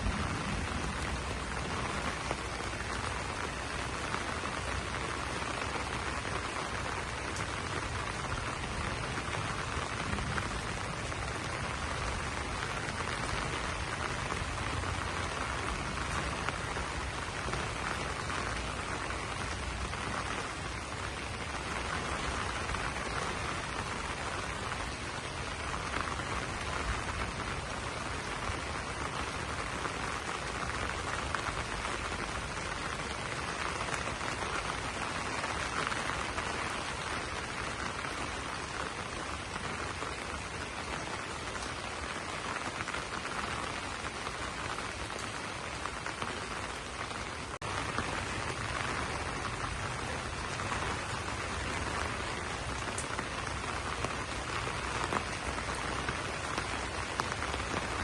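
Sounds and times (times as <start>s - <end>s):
rain on leaves: 0.0s - 58.0s.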